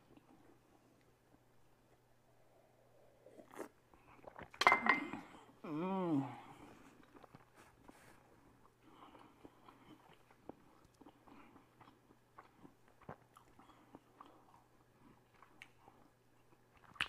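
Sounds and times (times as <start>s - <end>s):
faint chewing of bread: 0.0s - 4.6s, 6.3s - 17.0s.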